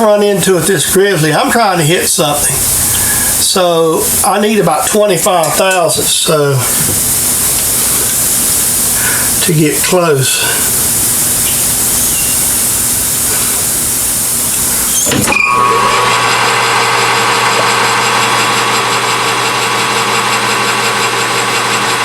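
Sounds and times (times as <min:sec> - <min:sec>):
steady hiss: 0:00.0 - 0:18.4
metal lathe humming: 0:00.0 - 0:22.0.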